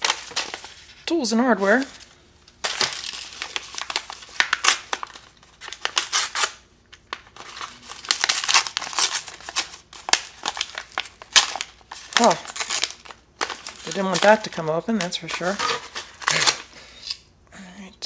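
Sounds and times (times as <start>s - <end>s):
paper envelope crinkling: 0.0s - 16.7s.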